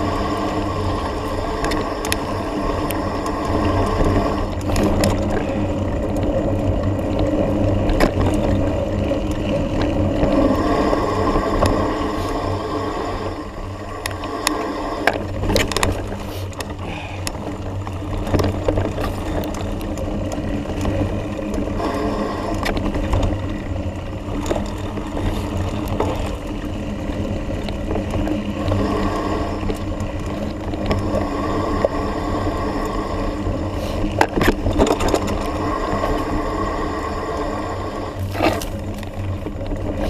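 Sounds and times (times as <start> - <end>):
bike rattling: 0.0 - 40.0
bike tyres rumbling on dirt: 0.0 - 40.0.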